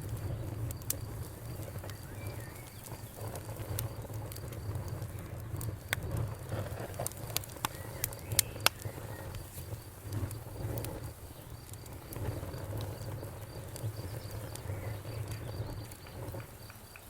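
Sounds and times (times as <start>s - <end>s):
flames rumbling: 0.0s - 17.0s
wood fire crackling: 0.0s - 17.0s.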